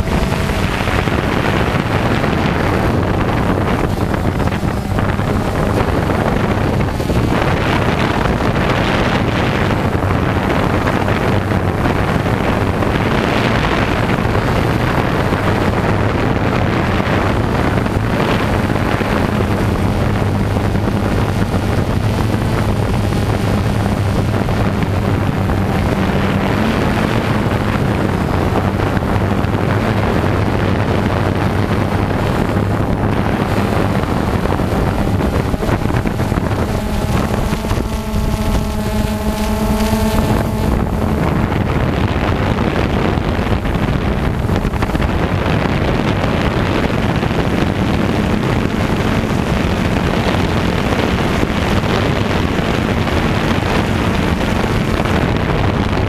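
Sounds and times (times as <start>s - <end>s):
drone propellers whirring: 0.0s - 56.0s
wind rushing over microphone: 0.0s - 56.0s.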